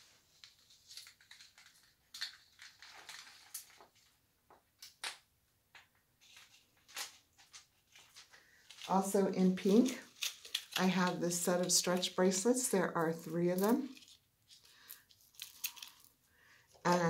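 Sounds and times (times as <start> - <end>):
jewelry packaging rustling and clicking: 0.4 - 17.0.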